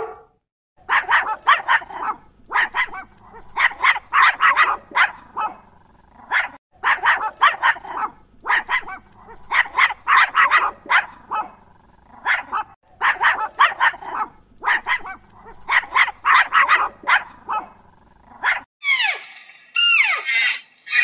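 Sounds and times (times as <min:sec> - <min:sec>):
dog barking: 0:00.0 - 0:18.7.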